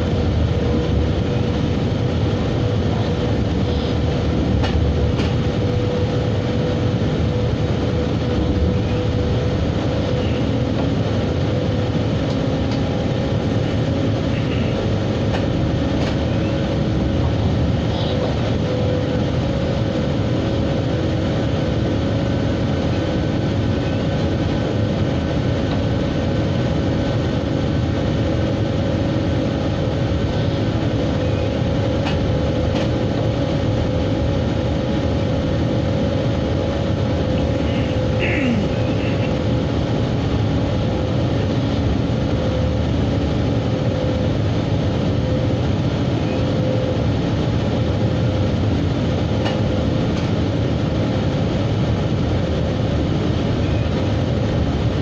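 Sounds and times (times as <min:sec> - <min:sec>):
steady droning tone: 0:00.0 - 0:55.0
train wheels rumbling on rails: 0:00.0 - 0:55.0.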